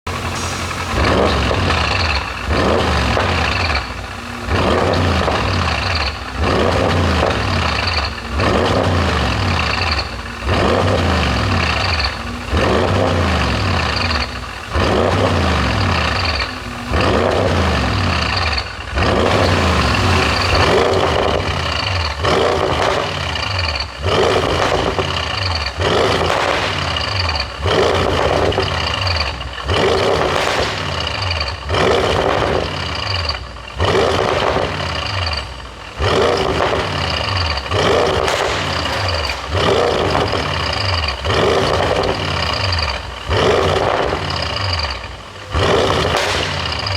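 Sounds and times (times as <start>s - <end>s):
car engine revving in blips: 0.0s - 46.9s.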